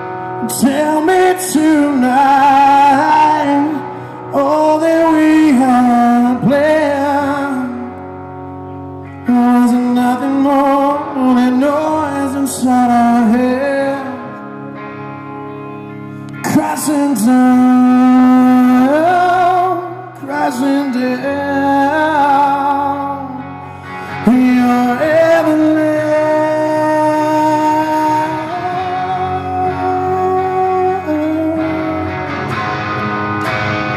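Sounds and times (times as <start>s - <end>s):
man singing: 0.0s - 8.0s, 9.1s - 14.5s, 16.3s - 32.3s
guitar: 0.0s - 33.9s.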